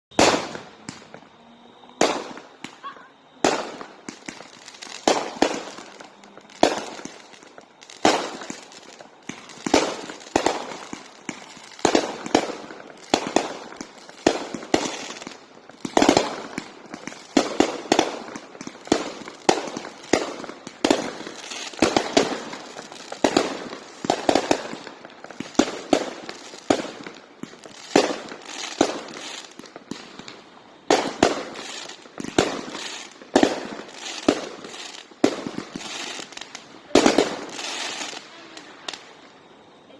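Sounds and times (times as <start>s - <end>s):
fireworks bangs with echo: 0.1s - 39.1s.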